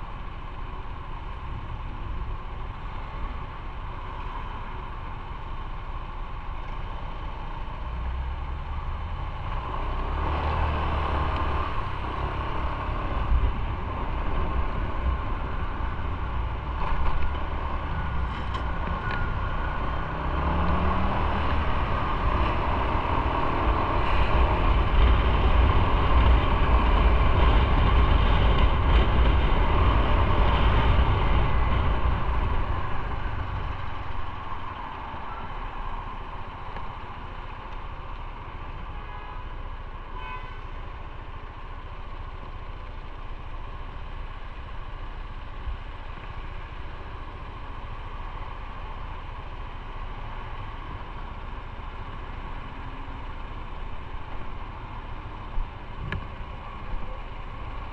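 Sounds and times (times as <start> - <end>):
road noise: 0.0 - 57.9.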